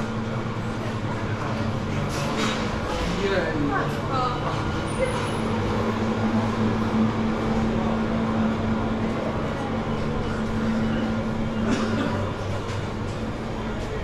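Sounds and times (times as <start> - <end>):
dense background noise: 0.0 - 14.0
low machine hum: 0.0 - 14.0.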